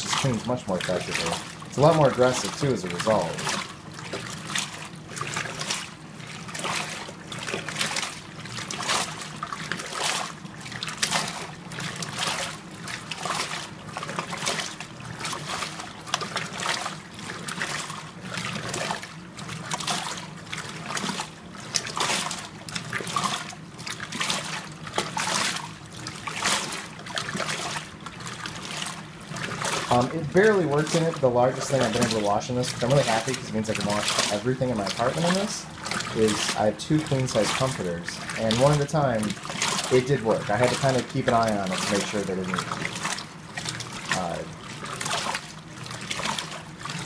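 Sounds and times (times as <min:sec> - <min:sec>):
steady low hum: 0:00.0 - 0:47.0
water and clothes sloshing: 0:00.0 - 0:47.0.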